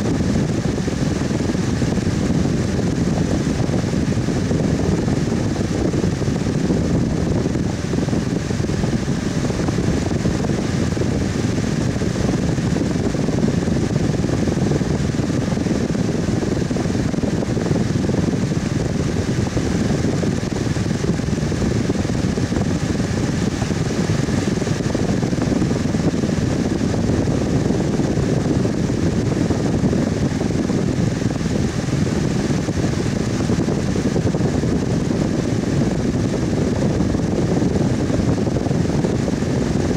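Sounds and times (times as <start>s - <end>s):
electric fan whooshing: 0.0s - 39.9s.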